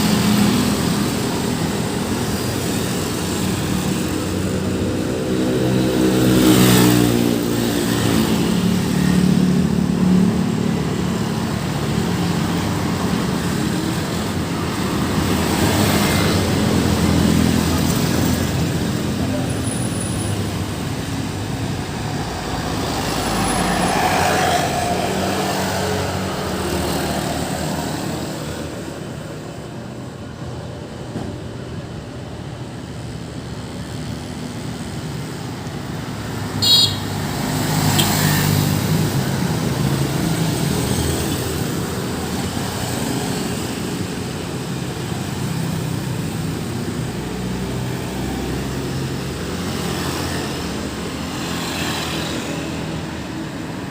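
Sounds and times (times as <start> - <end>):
vehicles passing: 0.0 - 53.9.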